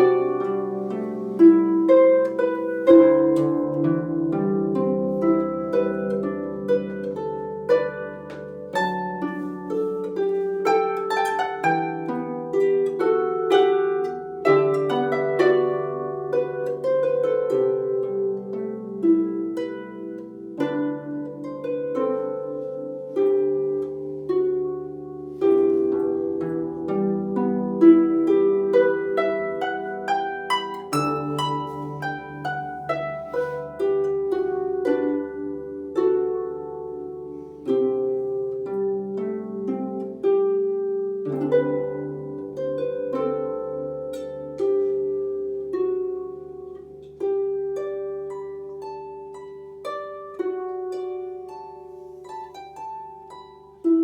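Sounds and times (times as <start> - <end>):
harp playing: 0.0 - 54.0.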